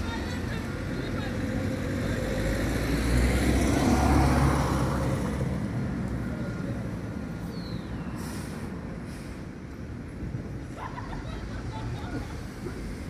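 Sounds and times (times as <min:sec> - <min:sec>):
diesel bus engine rumbling: 0:00.0 - 0:13.0.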